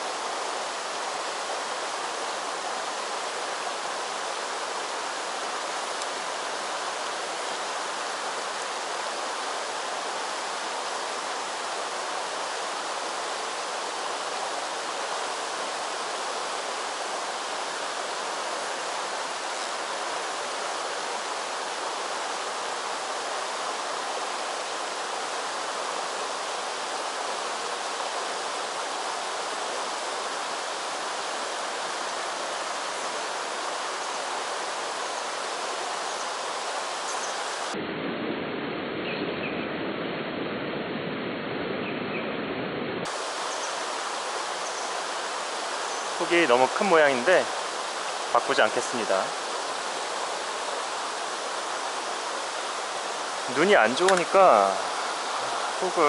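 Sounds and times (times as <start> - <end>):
stream water running over rocks: 0.0 - 37.8, 43.0 - 56.0.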